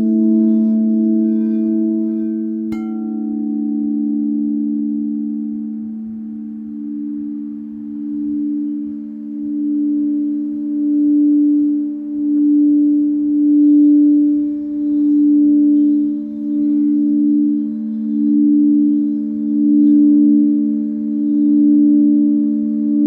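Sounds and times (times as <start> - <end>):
singing bowl hum: 0.0 - 23.0.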